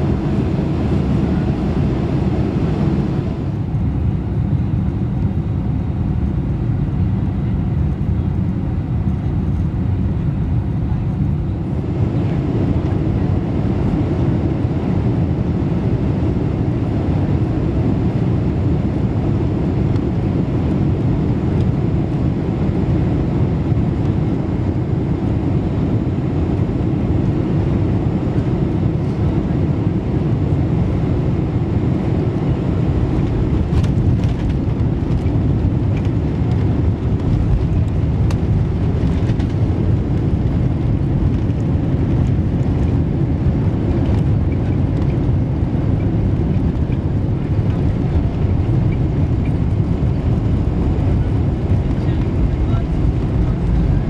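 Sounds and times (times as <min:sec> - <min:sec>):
low rumble of engines and runway: 0:00.0 - 0:54.0.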